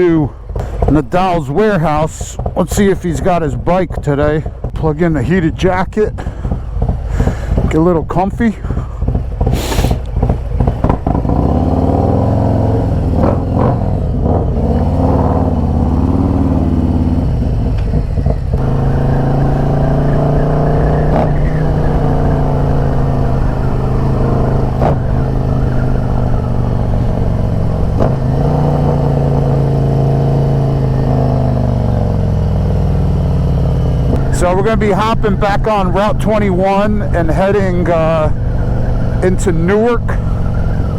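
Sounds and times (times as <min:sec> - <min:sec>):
motorcycle accelerating: 0:00.0 - 0:40.9.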